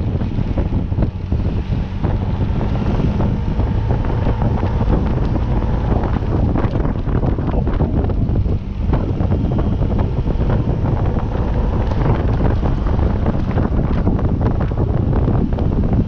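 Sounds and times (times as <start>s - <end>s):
faint vehicle engine running: 0.0s - 16.0s
wind buffeting microphone: 0.0s - 16.0s.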